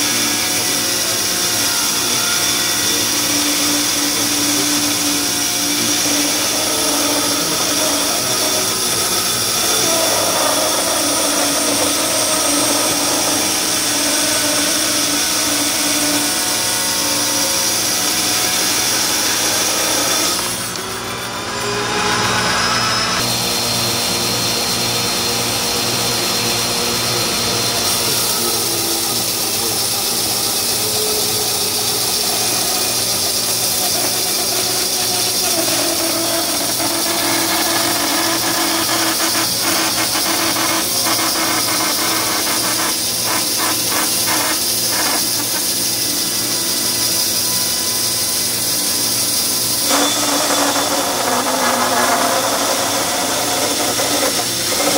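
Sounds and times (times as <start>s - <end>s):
bandsaw cutting a board: 0.0s - 54.9s.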